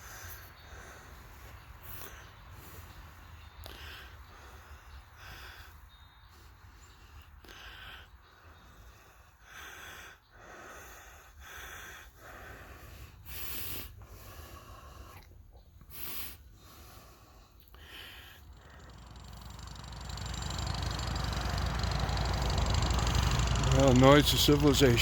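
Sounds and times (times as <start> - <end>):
heavy breathing: 0.0 - 20.6.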